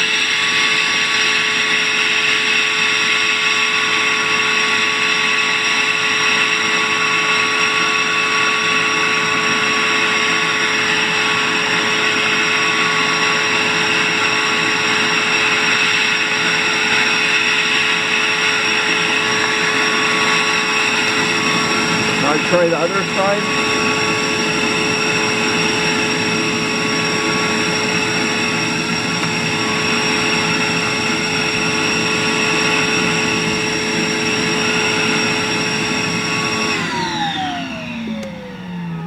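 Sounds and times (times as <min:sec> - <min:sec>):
vacuum cleaner whining: 0:00.0 - 0:39.0.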